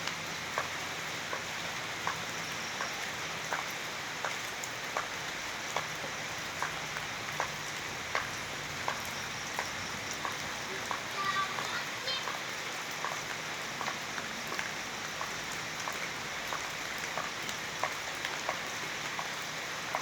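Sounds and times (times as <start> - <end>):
rain hiss: 0.0 - 20.0
water drip: 0.0 - 20.0.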